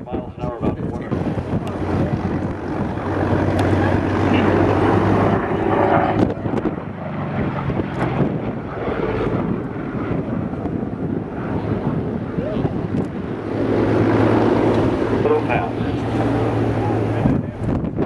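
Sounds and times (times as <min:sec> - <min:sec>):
propeller plane engine droning: 0:00.0 - 0:18.0
wind buffeting microphone: 0:00.0 - 0:18.0.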